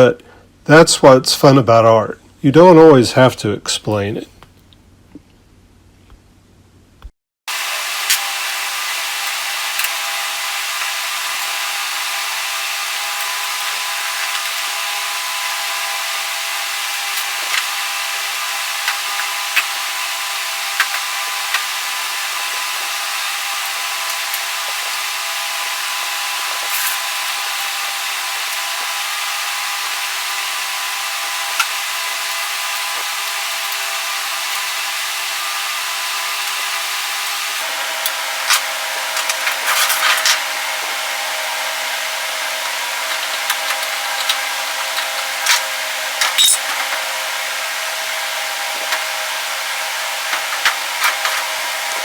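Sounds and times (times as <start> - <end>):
small power tool running: 7.5 - 52.0.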